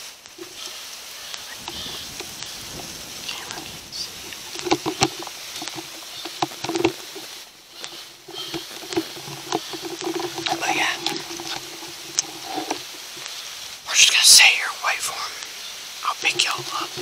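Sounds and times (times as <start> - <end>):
dry leaves rustling and crunching: 0.0 - 17.0.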